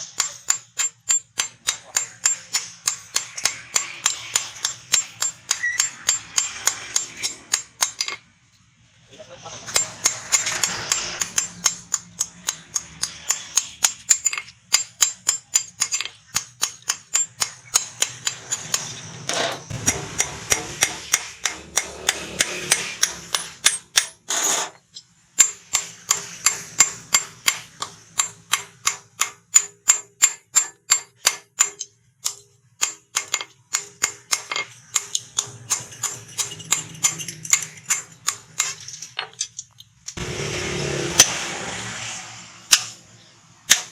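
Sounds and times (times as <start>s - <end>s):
hammer striking steel on anvil: 0.0s - 8.2s, 9.6s - 24.8s, 25.4s - 42.1s, 42.7s - 43.9s.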